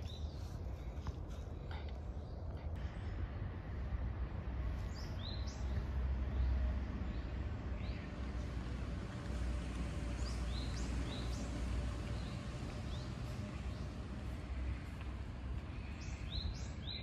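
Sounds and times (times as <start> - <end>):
small birds chirping: 0.0 - 2.8, 4.7 - 17.0
steady low rumble: 0.0 - 17.0.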